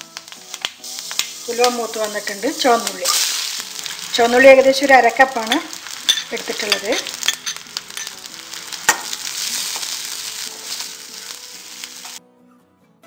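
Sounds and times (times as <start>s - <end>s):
shallots sizzling in oil: 0.0s - 12.2s
soft background music: 0.0s - 13.0s.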